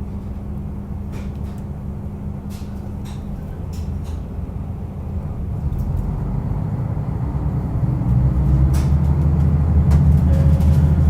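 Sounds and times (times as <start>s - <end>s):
diesel railcar engine: 0.0s - 11.0s.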